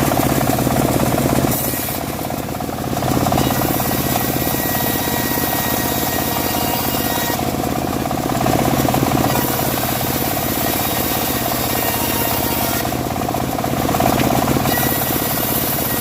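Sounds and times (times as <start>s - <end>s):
pulsing engine: 0.0s - 16.0s.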